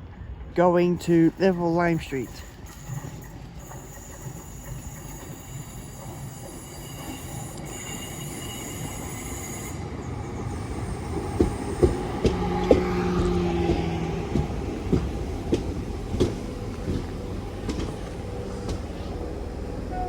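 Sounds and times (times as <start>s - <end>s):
electric train high whine: 0.3s - 20.0s
train wheels clicking: 0.9s - 9.7s, 10.5s - 20.0s.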